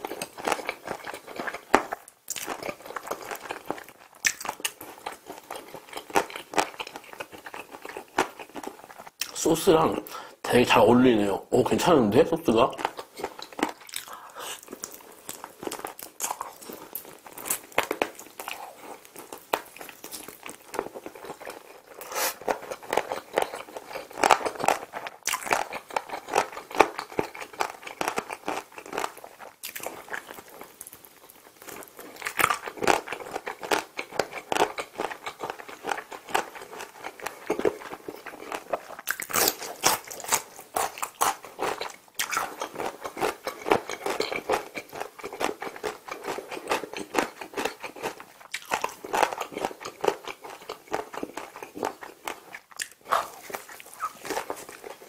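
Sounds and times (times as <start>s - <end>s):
chewing and biting fried chicken: 0.0s - 9.4s, 12.6s - 55.0s.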